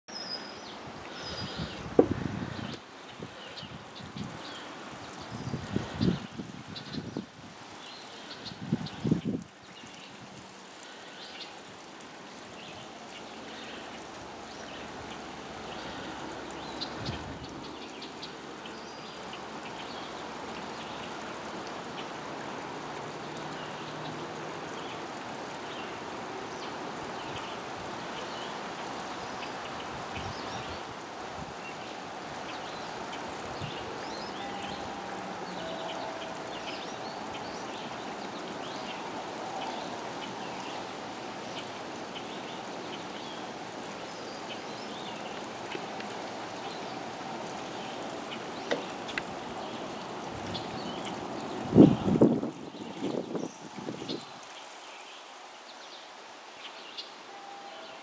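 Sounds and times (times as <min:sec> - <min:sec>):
steady rushing hiss: 0:00.1 - 0:58.0.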